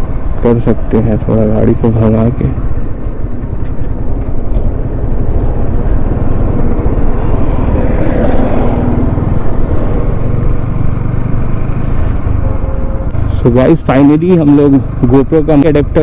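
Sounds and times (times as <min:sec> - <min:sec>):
wind buffeting microphone: 0:00.0 - 0:13.4
motorcycle engine running: 0:00.0 - 0:16.0.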